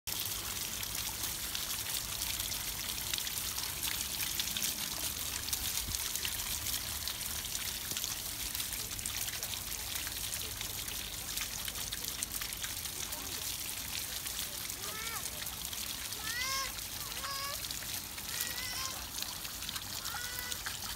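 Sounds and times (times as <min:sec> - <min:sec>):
fountain water splashing: 0:00.1 - 0:20.9.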